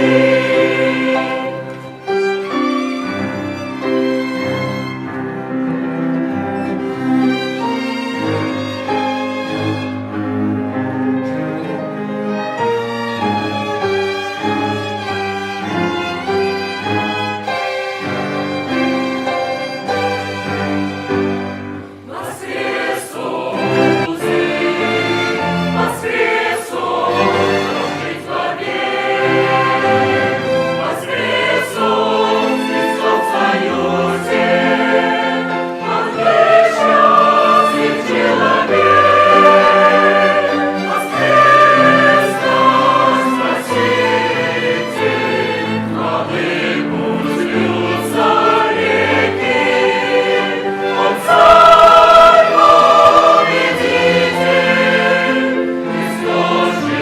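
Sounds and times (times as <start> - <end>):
choir singing a hymn: 0.0 - 57.0
instrumental ensemble: 0.0 - 57.0.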